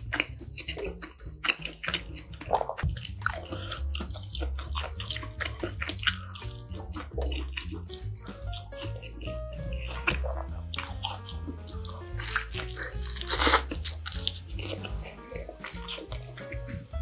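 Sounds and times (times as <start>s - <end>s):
chewing pizza: 0.0s - 17.0s
soft background music with bass: 0.0s - 17.0s
crunchy bite into pizza: 0.1s - 17.0s.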